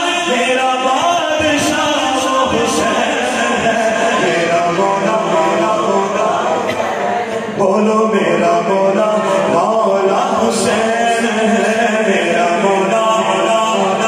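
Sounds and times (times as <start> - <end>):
man chanting devotional song: 0.0 - 6.6, 7.4 - 14.0.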